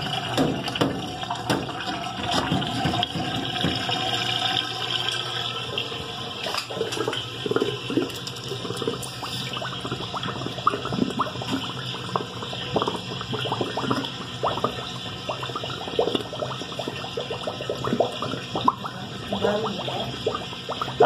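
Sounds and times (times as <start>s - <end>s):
water gurgling down a drain: 0.0s - 21.0s.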